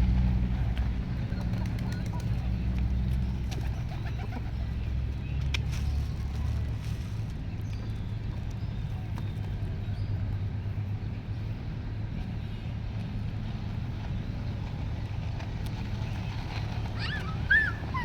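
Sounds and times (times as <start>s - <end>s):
low rumble of motor traffic: 0.0s - 18.0s.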